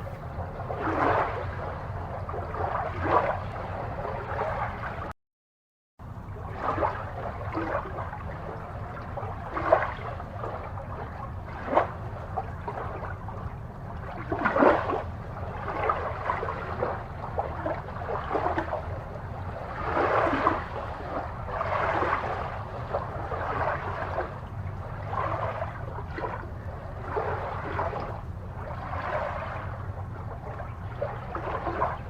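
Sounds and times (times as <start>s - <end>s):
aquarium water bubbling: 0.0s - 5.1s, 6.0s - 32.0s
steady low hum: 6.0s - 32.0s.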